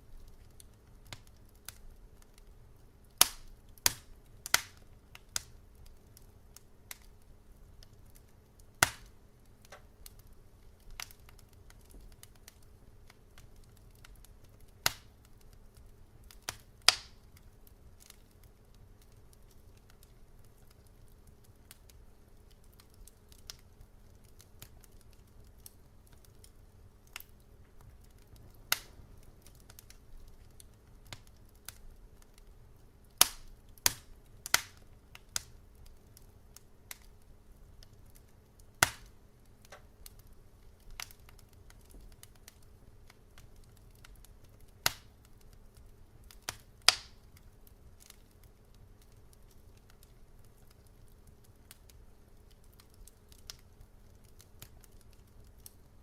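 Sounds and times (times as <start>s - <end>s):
faint low background: 0.0s - 56.0s
wood fire crackling: 0.0s - 56.0s.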